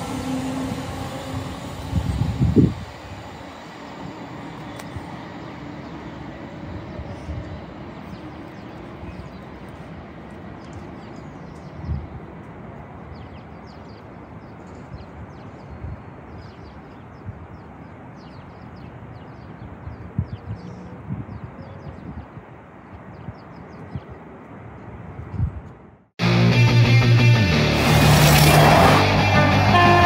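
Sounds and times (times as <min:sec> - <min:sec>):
distant train rumble: 0:00.0 - 0:30.0.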